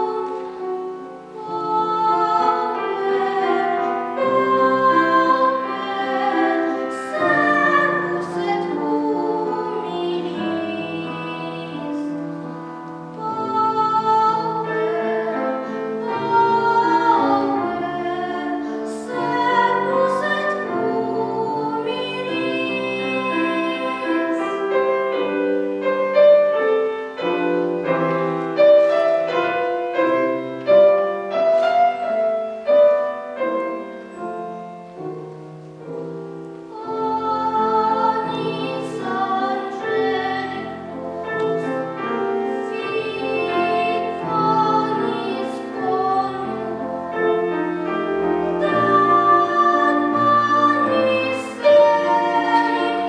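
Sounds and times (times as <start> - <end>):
child singing classically: 0.0 - 26.2, 36.6 - 53.0
piano accompaniment: 0.0 - 53.0.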